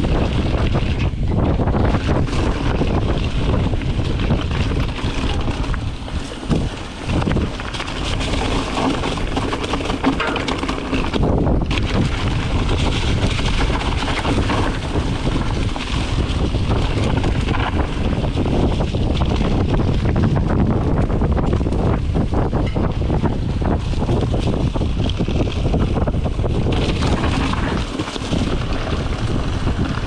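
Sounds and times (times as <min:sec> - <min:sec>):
bike knocks and rattles: 0:00.0 - 0:30.0
low rumble of bike rolling: 0:00.0 - 0:30.0
wind rushing over microphone: 0:00.0 - 0:30.0.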